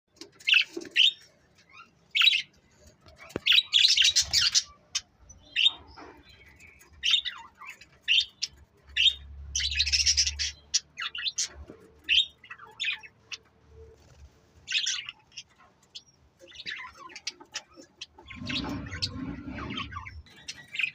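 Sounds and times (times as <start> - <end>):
small cage birds chirping: 0.1 - 20.9.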